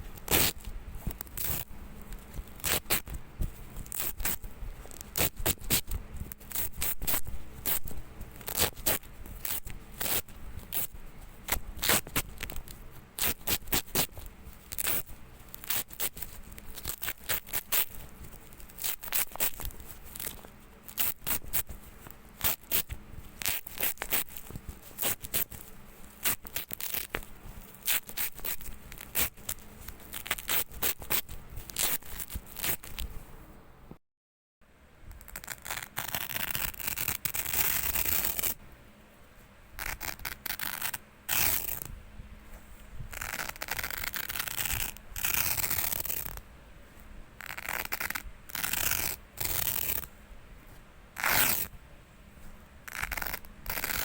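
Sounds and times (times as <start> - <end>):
hook-and-loop tape ripping: 0.0 - 33.1, 35.1 - 38.6, 39.8 - 41.9, 43.1 - 46.4, 47.4 - 50.1, 51.2 - 51.7, 52.8 - 54.0.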